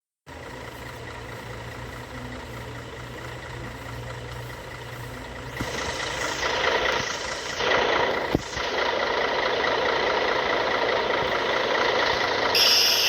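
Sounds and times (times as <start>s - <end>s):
vehicle engine humming: 0.2s - 13.0s.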